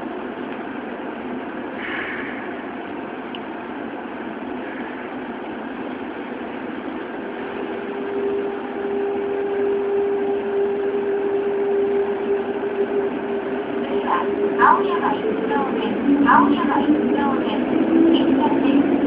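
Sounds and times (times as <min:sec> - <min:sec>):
subway inverter whine: 0:00.0 - 0:19.0
train running noise: 0:00.0 - 0:19.0.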